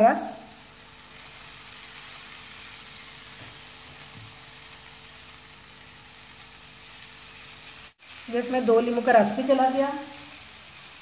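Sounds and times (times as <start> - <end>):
fries sizzling in oil: 0.0 - 11.0.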